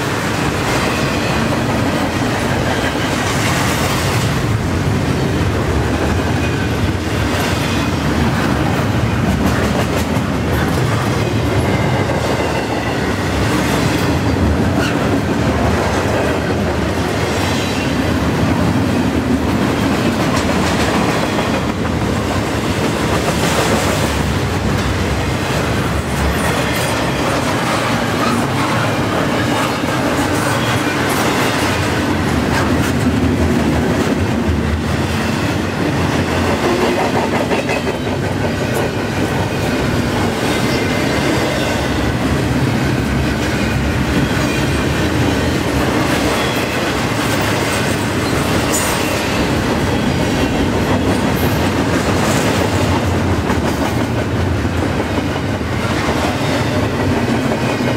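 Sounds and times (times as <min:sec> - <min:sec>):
freight train wheels rumbling on rails: 0:00.0 - 0:57.9.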